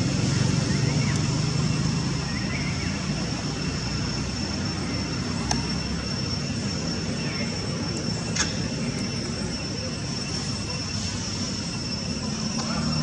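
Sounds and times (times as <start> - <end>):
rumbling background noise: 0.0 - 13.0
thin high-pitched whine: 0.0 - 13.0.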